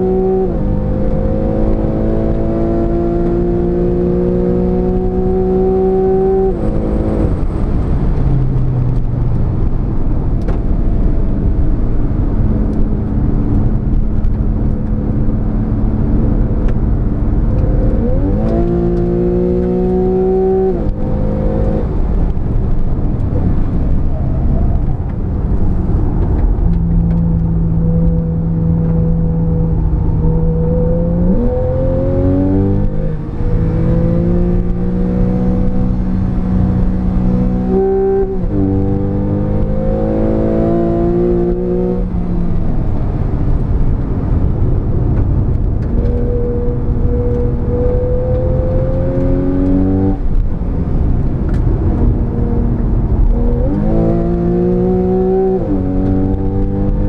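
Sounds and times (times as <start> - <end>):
sports car engine revving: 0.0 - 8.2, 12.5 - 22.4, 25.4 - 43.2, 44.3 - 57.0
road and wind noise: 0.0 - 57.0.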